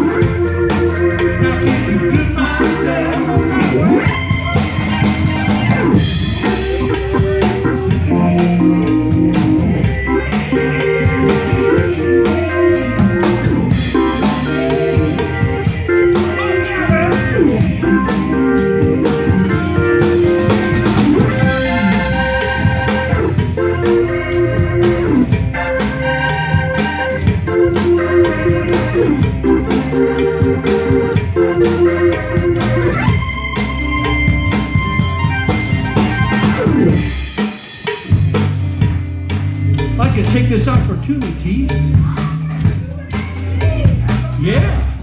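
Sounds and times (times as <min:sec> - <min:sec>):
blues-rock band playing: 0:00.0 - 0:45.0
drums: 0:00.0 - 0:45.0
organ chords: 0:00.0 - 0:45.0.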